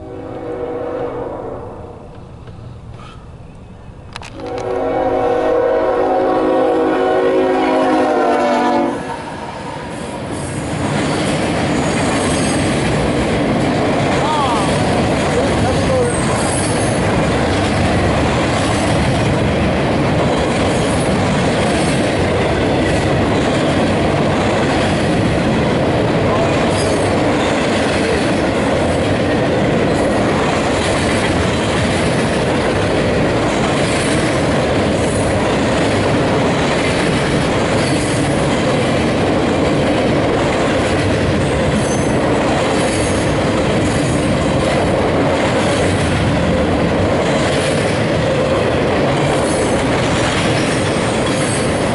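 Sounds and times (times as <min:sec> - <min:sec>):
train wheels rolling on rails: 0:02.0 - 0:51.9.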